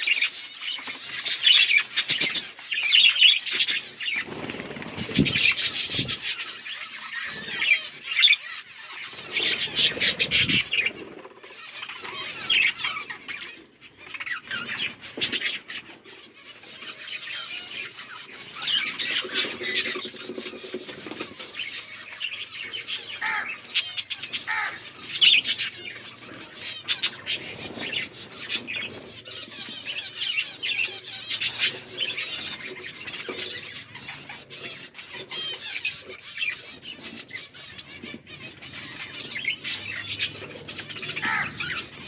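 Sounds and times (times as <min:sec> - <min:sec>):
budgies chattering and warbling: 0:00.0 - 0:42.0.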